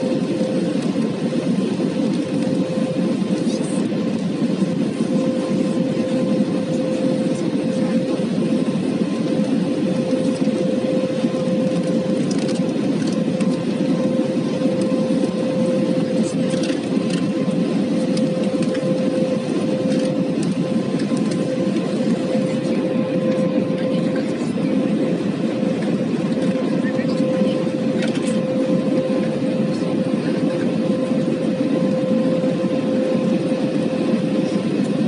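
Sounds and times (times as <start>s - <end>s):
airliner engines rushing: 0.0s - 35.0s
constant hum: 0.0s - 35.0s.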